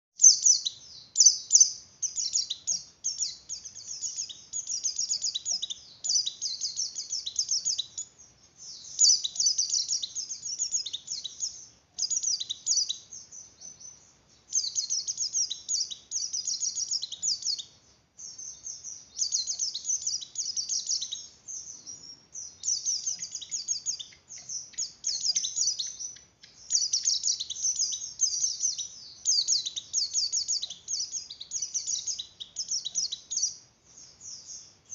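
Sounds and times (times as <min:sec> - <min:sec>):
bird twittering song: 0:00.2 - 0:34.9.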